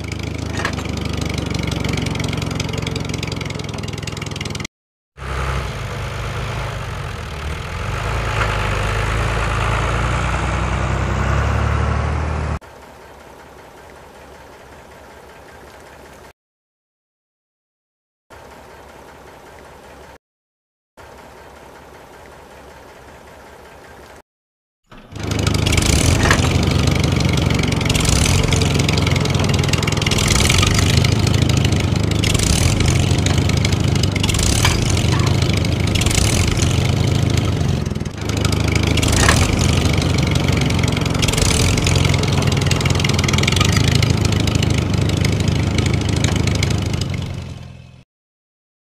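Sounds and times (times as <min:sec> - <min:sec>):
tractor engine running: 0:00.0 - 0:16.3, 0:24.9 - 0:48.0.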